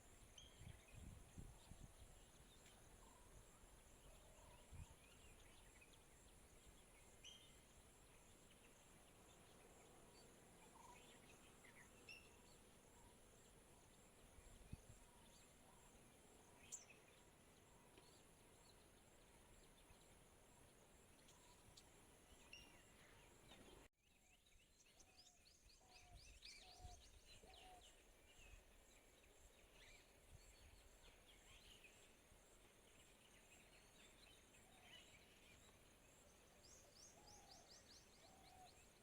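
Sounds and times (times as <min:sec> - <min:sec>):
soft background hiss: 0:00.0 - 0:39.0.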